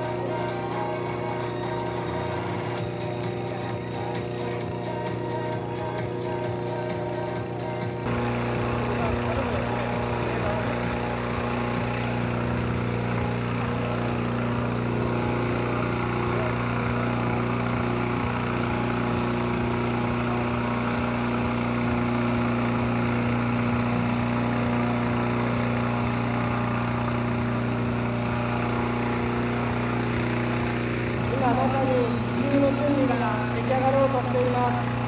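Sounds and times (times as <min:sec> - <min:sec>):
small engine humming: 0:00.0 - 0:35.0.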